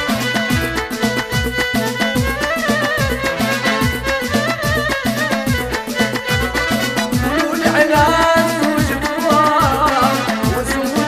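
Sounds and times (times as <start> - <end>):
melody with sliding notes: 0.0 - 9.3
steady drum beat: 0.0 - 11.0.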